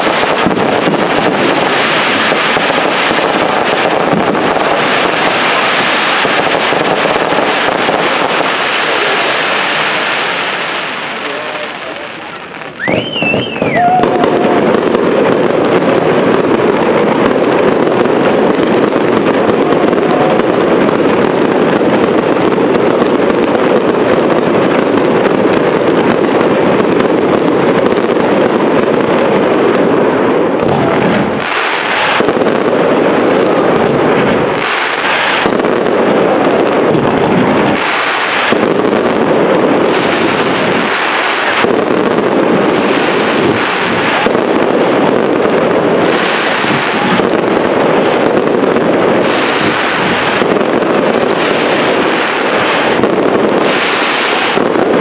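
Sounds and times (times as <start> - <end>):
fireworks bangs: 0.0 - 55.0
fireworks crackling hiss: 0.0 - 55.0.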